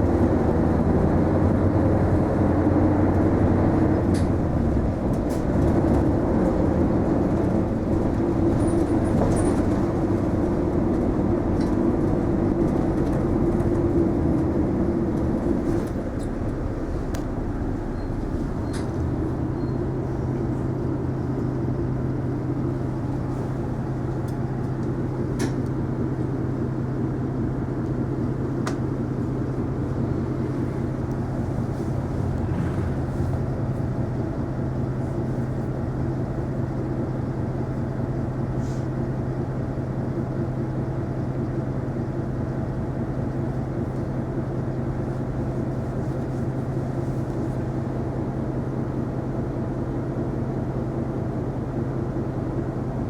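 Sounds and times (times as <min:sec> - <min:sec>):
road noise: 0:00.0 - 0:48.9
bus engine hum: 0:00.0 - 0:53.0.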